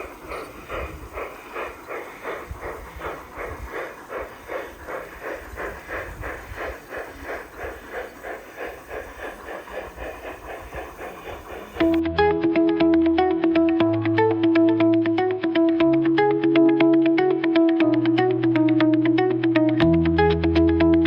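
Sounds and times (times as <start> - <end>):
model steam locomotive chuffing: 0.0 - 12.1, 15.1 - 20.9.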